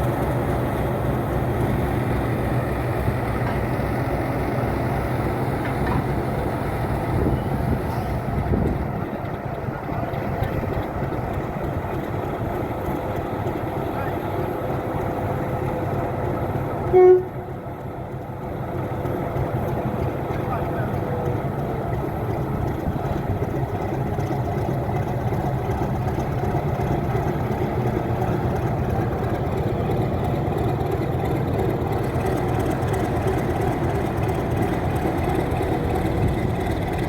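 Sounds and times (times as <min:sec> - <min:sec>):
diesel locomotive engine rumbling: 0:00.0 - 0:37.0.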